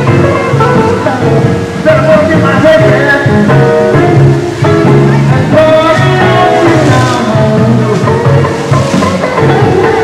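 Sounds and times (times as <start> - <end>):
loud instrumental music: 0.0 - 10.0.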